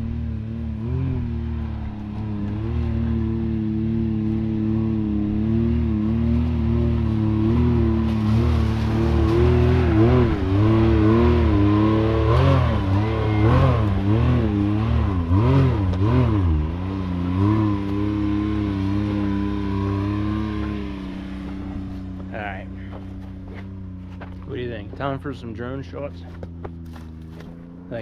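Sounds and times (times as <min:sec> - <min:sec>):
utility vehicle engine revving: 0:00.0 - 0:28.0.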